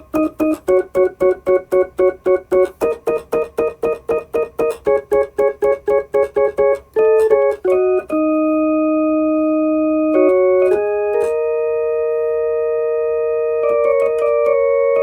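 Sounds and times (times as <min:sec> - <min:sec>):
electronic keyboard organ chords: 0:00.0 - 0:15.0.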